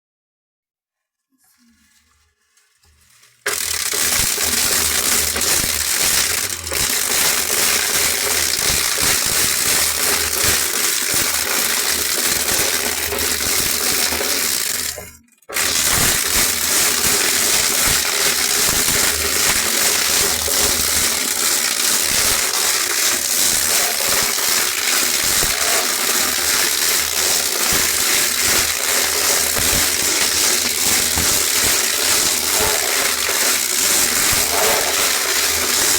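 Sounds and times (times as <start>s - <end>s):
machine rattling while crushing: 1.9s - 35.9s.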